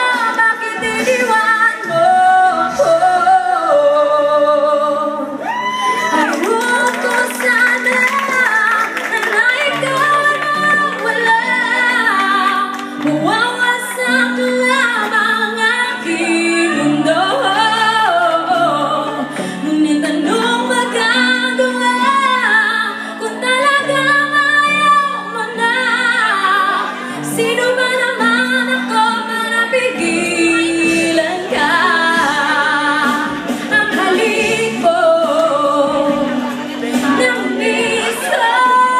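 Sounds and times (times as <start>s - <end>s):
instrumental accompaniment: 0.0s - 38.9s
woman singing into a microphone: 0.0s - 38.9s.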